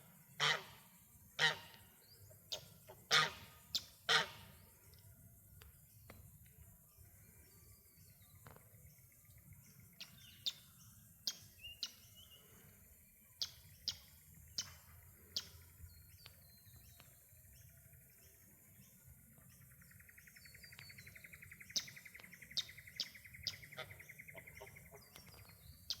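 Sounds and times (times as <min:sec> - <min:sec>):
small birds chirping: 0:02.1 - 0:26.0.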